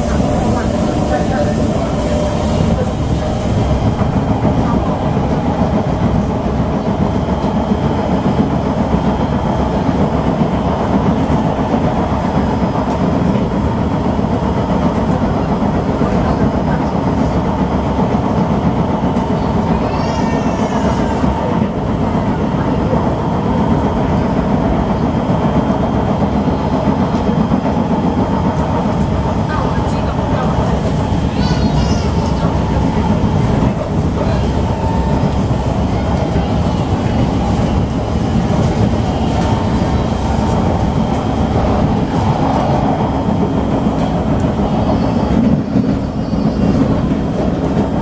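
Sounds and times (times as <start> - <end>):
train running at speed: 0.0 - 48.0.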